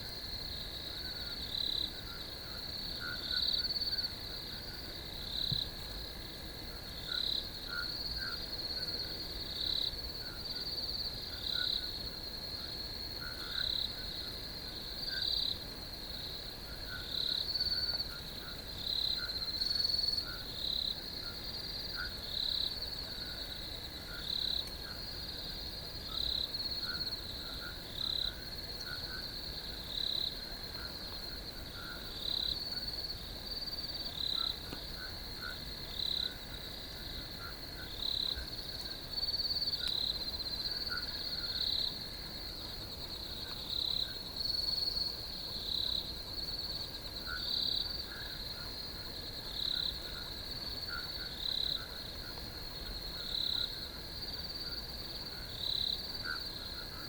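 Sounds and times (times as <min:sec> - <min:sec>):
crickets trilling: 0:00.0 - 0:57.0
faint low insect calls: 0:00.0 - 0:57.0
loud cricket chirp: 0:00.0 - 0:57.0.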